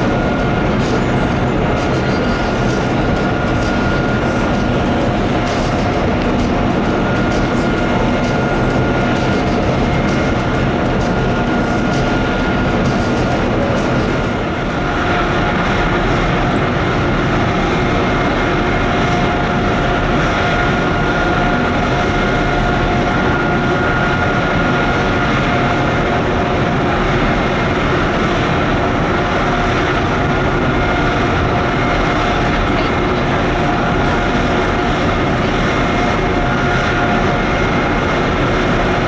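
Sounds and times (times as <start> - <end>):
high whine: 0.0 - 39.0
mechanical drone: 0.0 - 39.0.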